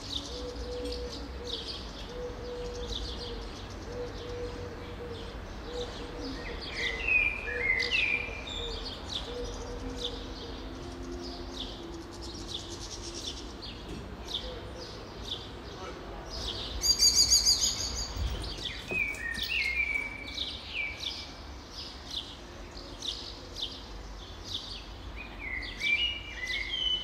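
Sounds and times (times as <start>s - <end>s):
birds chirping and twittering: 0.0s - 27.0s.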